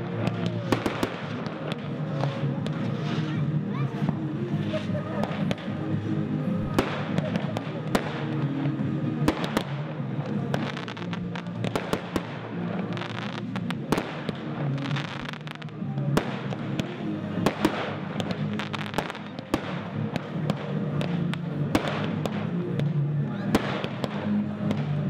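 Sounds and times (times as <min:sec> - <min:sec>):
fireworks bangs: 0:00.0 - 0:25.0
music playing: 0:00.0 - 0:25.0.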